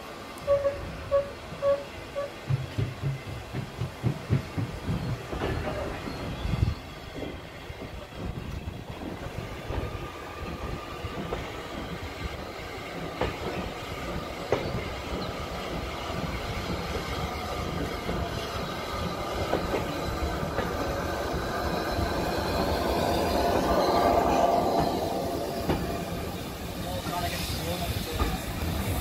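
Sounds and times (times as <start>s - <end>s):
steam locomotive approaching: 0.0s - 29.0s
wheels clicking over rail joints: 0.4s - 29.0s.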